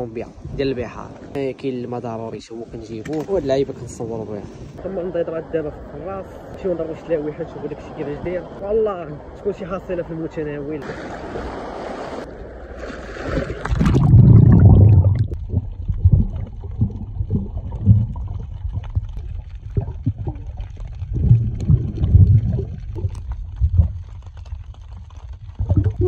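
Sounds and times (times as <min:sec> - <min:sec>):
muffled underwater water movement: 0:02.1 - 0:26.0
water surging over camera: 0:04.2 - 0:26.0.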